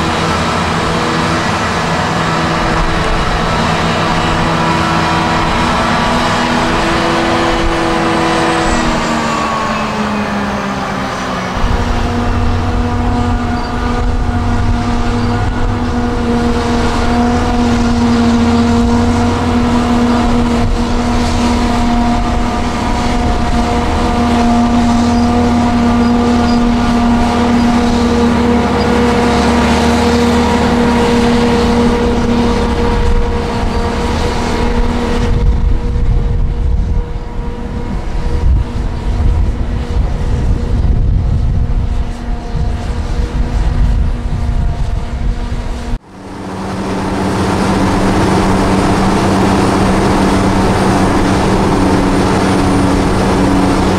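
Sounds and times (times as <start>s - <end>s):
deep rumble with constant whine: 0.0s - 53.9s
heavy machinery engines running: 0.0s - 53.9s.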